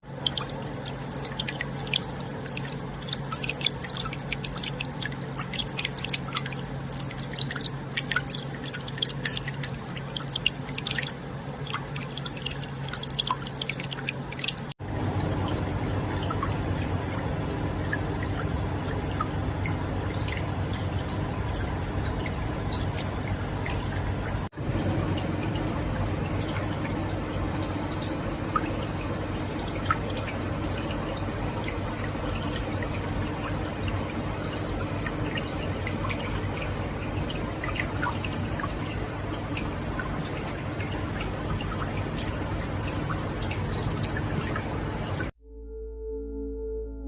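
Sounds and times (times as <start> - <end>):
steady flow of water: 0.0 - 45.3
water dripping and trickling: 0.0 - 45.3
steady low hum: 0.0 - 47.0.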